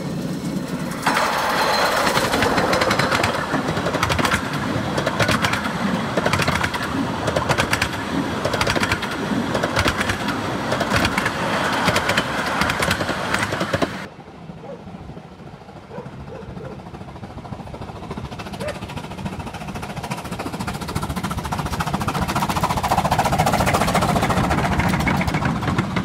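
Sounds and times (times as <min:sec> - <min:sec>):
wheels clicking over rail joints: 0:00.0 - 0:14.8, 0:15.9 - 0:26.0
steam locomotive passing: 0:00.0 - 0:26.0.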